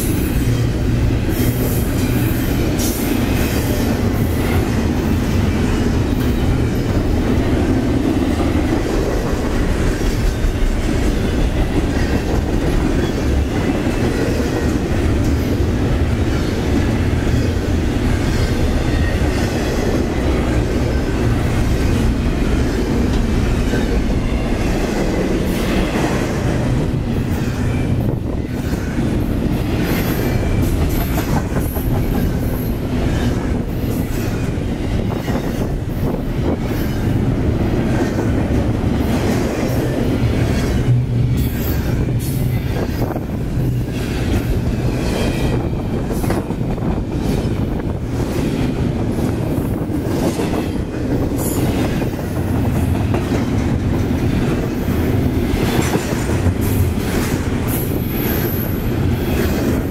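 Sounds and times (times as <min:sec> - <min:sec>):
freight train rumbling on bridge: 0:00.0 - 0:59.9
train wheels clattering over rail joints: 0:00.0 - 0:59.9.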